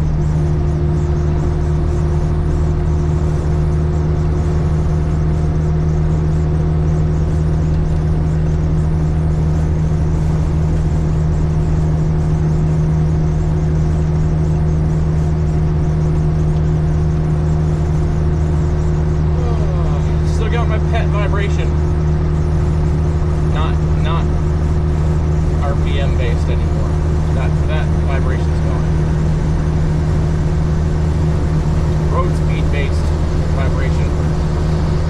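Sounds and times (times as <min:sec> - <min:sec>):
truck engine drone in cab: 0:00.0 - 0:35.0.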